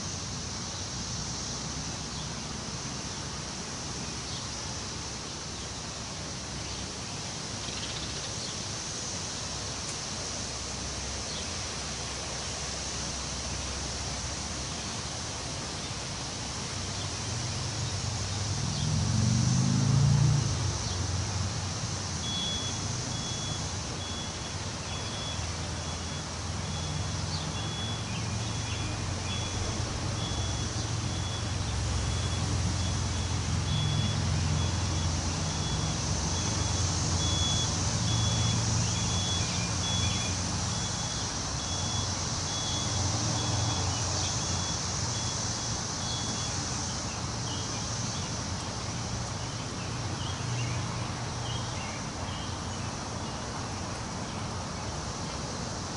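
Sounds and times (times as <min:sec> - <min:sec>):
wind rustling through trees: 0:00.0 - 0:55.9.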